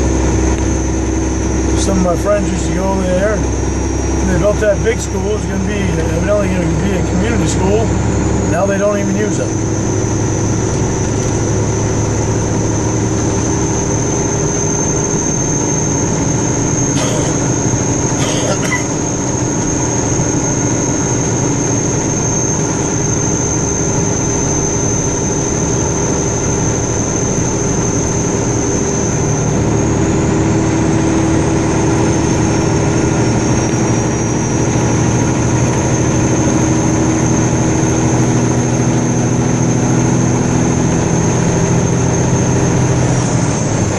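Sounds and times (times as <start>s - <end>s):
car engine: 0.0s - 43.9s
road noise: 0.0s - 43.9s
thin high whine: 0.0s - 43.9s.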